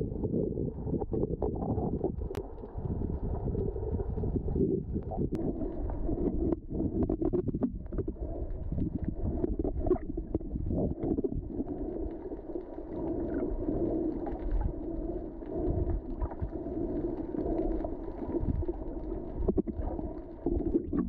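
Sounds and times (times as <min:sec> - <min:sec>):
underwater rumbling water: 0:00.0 - 0:21.0.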